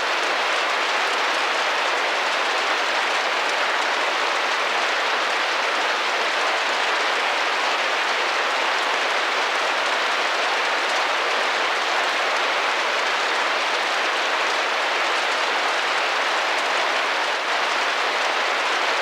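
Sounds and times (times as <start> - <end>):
rain on a window: 0.0 - 19.0.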